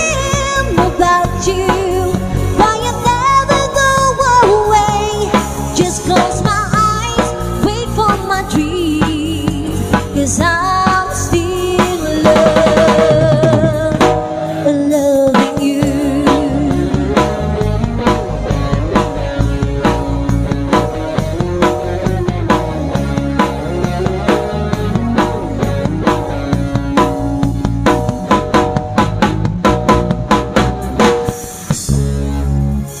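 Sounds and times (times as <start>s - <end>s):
live band playing: 0.0s - 33.0s.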